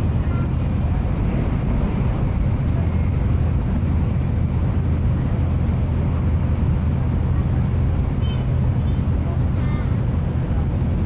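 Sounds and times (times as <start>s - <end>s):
train cabin low rumble: 0.0s - 11.0s.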